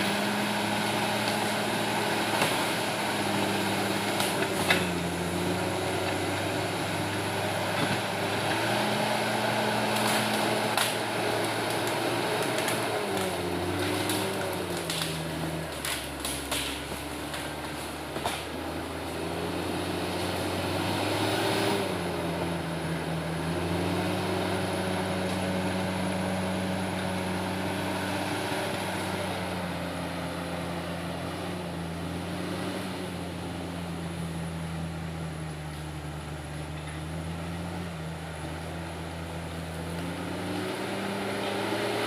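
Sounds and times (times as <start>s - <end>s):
bulldozer diesel engine droning: 0.0s - 42.0s.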